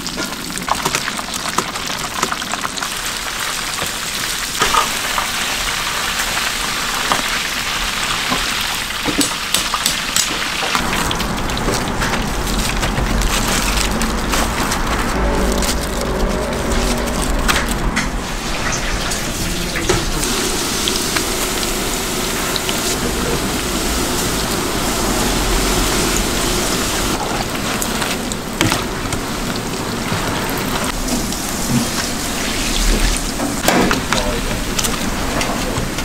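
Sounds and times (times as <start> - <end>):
deep-frying in hot oil: 0.0 - 36.0.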